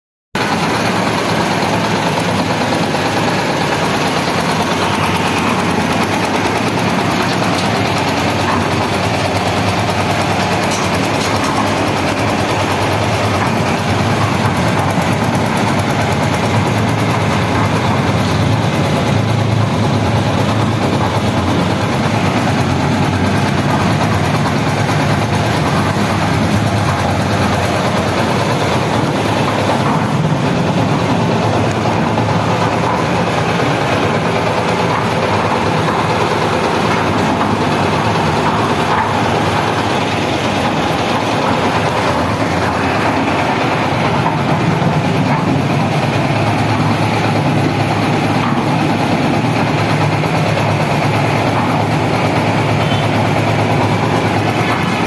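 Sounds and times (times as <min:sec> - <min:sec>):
small diesel engine running: 0:00.4 - 0:55.0.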